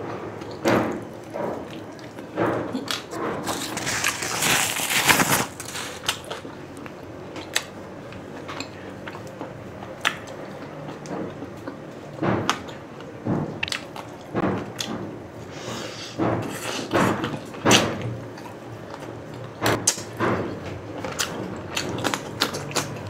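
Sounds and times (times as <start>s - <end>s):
man chewing meat: 0.2s - 23.0s.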